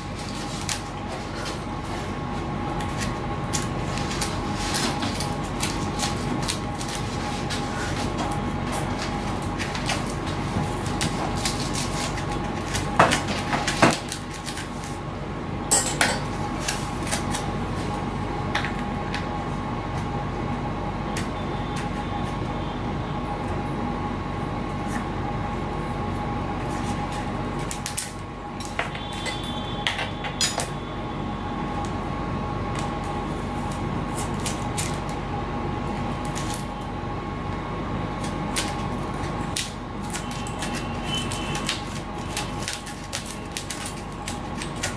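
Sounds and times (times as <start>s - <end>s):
steady background hum: 0.0s - 44.9s.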